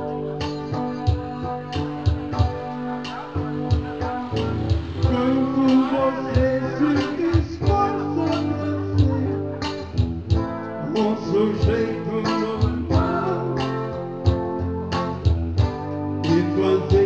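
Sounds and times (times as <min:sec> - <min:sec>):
guitar playing: 0:00.0 - 0:17.0
steady drum beat: 0:00.4 - 0:17.0.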